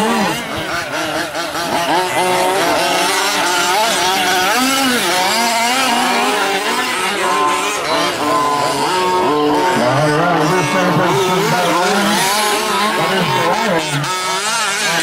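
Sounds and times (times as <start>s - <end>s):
rc truck engines racing: 0.0s - 15.0s.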